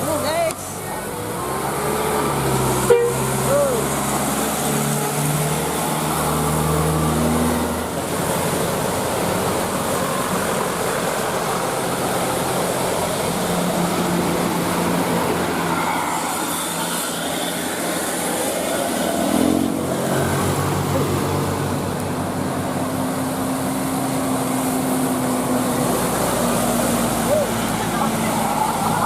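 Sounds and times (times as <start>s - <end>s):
rain and wet tyres hissing: 0.0s - 29.0s
vehicle engines running: 0.0s - 29.0s.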